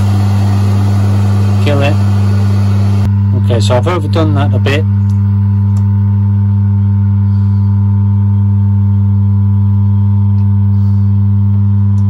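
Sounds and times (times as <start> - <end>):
electric motor hum: 0.0 - 3.6, 4.6 - 12.0.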